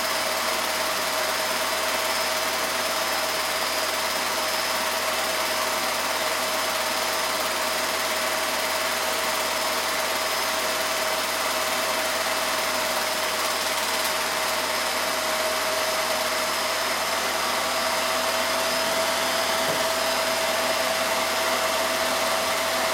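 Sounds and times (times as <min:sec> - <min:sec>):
film projector motor whirring: 0:00.1 - 0:22.9.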